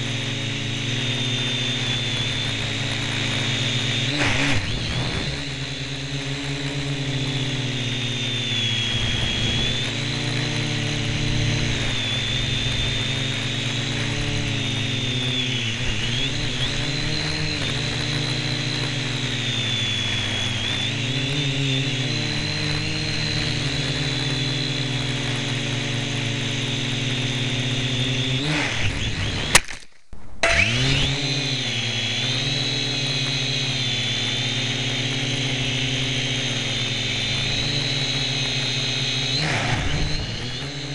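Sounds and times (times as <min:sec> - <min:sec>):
toy drone propellers whining: 0:00.0 - 0:29.8, 0:30.4 - 0:40.9.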